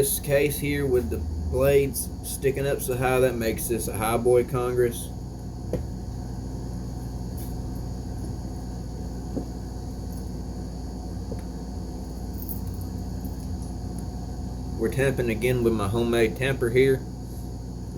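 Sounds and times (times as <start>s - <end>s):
low background hum: 0.0s - 17.9s.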